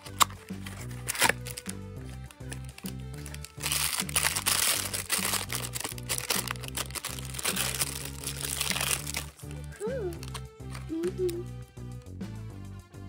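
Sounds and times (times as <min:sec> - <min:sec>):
plastic bag crinkling: 0:00.0 - 0:10.9
background music with bass line: 0:00.0 - 0:13.0.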